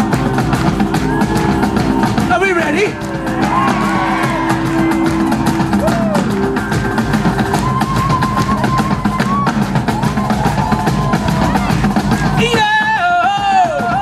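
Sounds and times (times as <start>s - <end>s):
heavy pounding drums: 0.0s - 14.0s.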